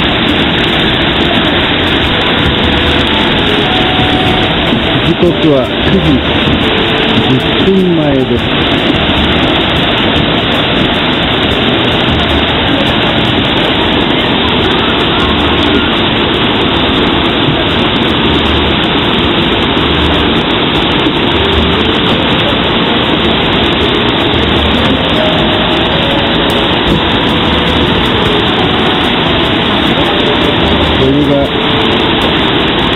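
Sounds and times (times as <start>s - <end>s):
water pouring and cascading: 0.0s - 32.9s.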